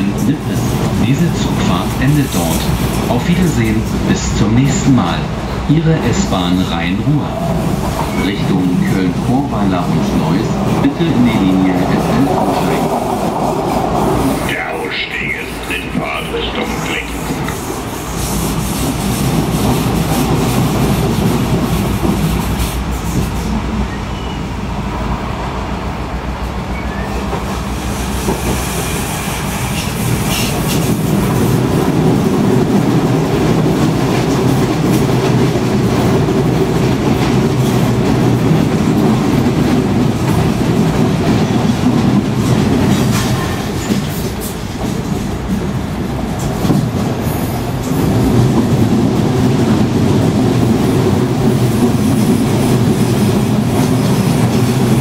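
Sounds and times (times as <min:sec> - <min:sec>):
train coach rumble: 0:00.0 - 0:55.0.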